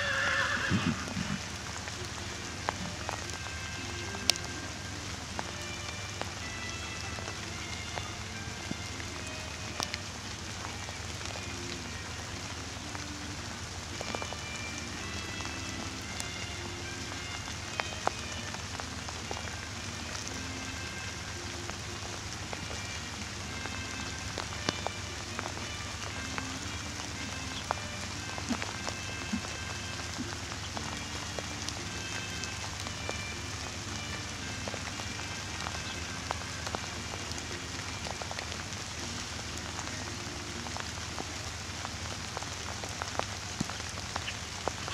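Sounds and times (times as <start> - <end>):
raindrop ticks: 0.0 - 44.9
steady rain hiss: 0.0 - 44.9.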